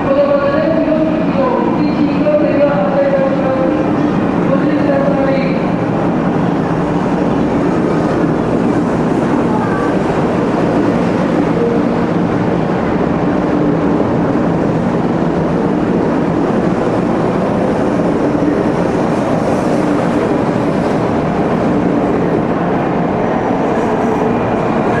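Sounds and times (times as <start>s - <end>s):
train running noise: 0.0s - 25.0s.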